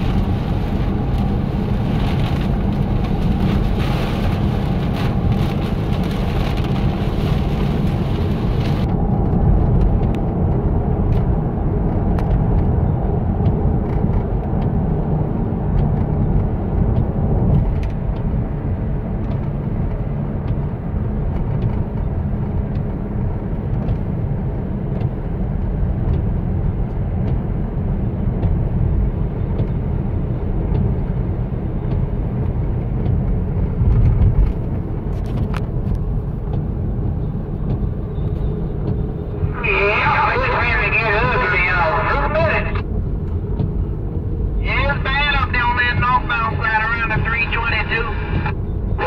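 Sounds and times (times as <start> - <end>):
car road and engine rumble: 0.0 - 49.0.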